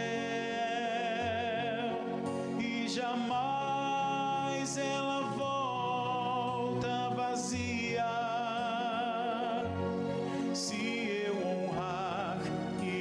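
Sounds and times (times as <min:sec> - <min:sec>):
instrumental accompaniment: 0:00.0 - 0:13.0.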